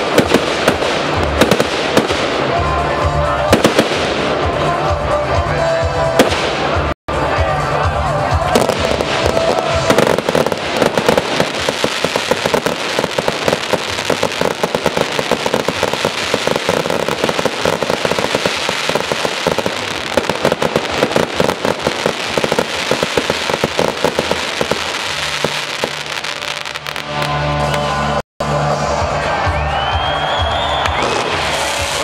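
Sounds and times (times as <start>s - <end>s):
fireworks crackling and popping: 0.0s - 5.2s, 6.2s - 7.0s, 8.4s - 28.2s, 30.9s - 32.0s.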